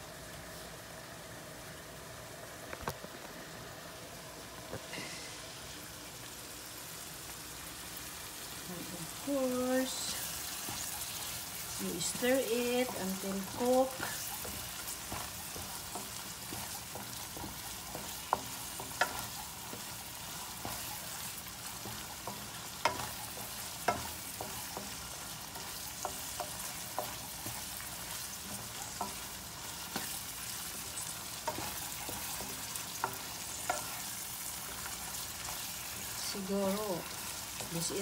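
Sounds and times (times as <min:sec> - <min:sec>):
meat sizzling in a frying pan: 0:00.0 - 0:38.0.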